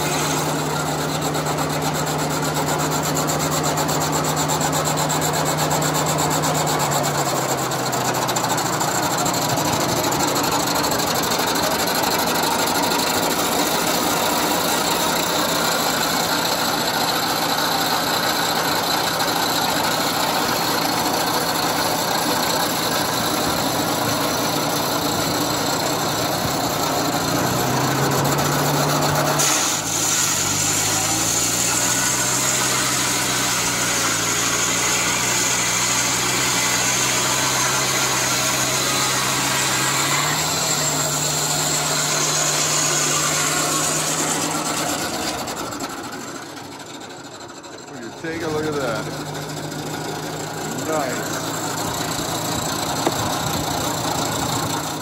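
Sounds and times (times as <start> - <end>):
old engine driving sawmill: 0.0 - 55.0
saw blade cutting log: 0.0 - 55.0.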